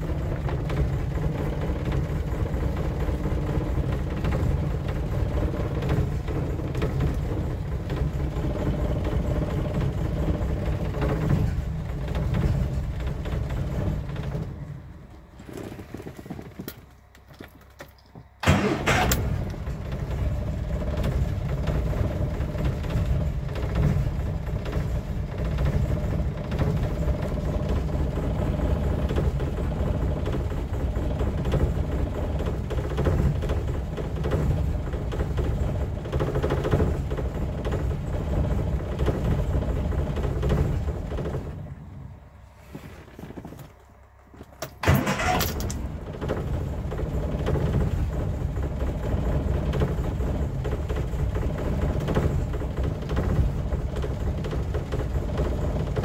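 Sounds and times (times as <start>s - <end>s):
car engine running roughly: 0.0s - 56.0s.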